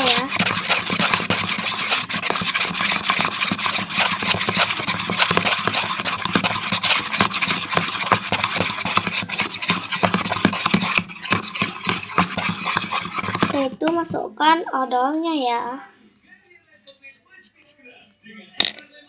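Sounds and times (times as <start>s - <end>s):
utensil scraping slime in bowl: 0.0s - 15.4s.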